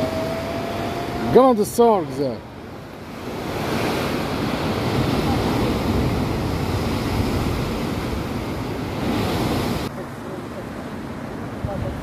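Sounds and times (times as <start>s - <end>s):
wind buffeting microphone: 0.0s - 9.9s, 11.3s - 12.0s
surf washing against rocks: 0.0s - 12.0s.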